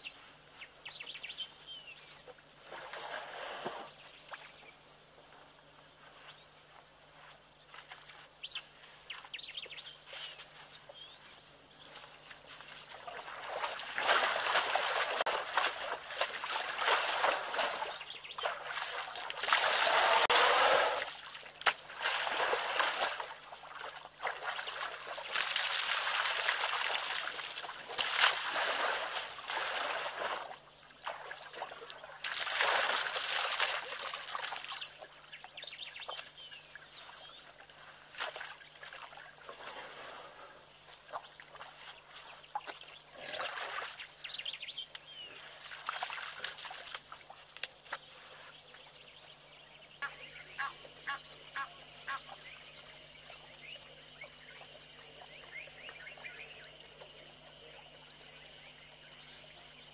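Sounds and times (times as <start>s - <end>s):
faint steady hum: 0.0s - 59.9s
mud and water splashing: 2.0s - 59.9s.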